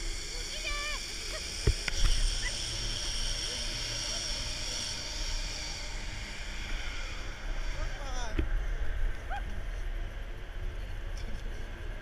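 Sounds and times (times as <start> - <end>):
zipline pulleys hissing on cable: 0.0 - 9.9.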